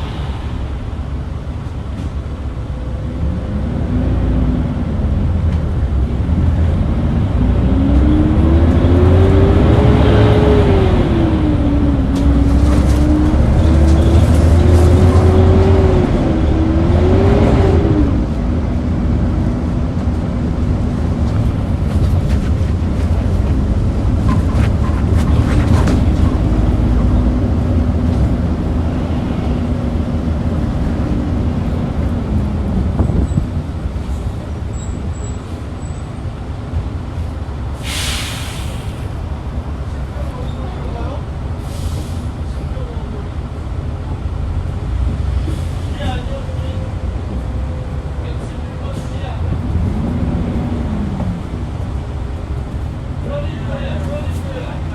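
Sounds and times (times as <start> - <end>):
bus engine whine: 0.0 - 54.9.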